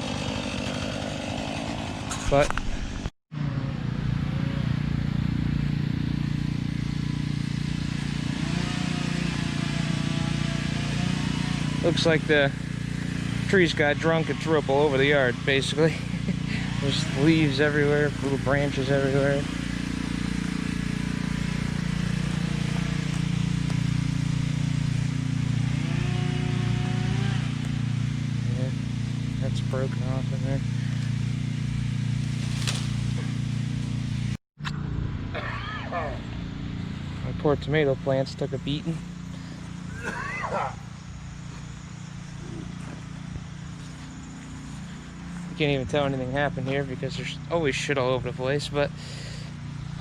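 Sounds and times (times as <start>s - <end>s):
small gasoline engine running: 0.0s - 34.4s, 36.2s - 50.0s.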